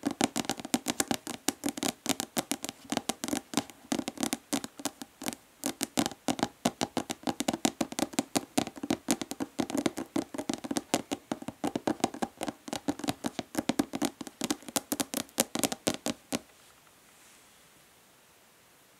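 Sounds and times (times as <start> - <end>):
fingernail tapping plastic bottle: 0.0 - 16.5.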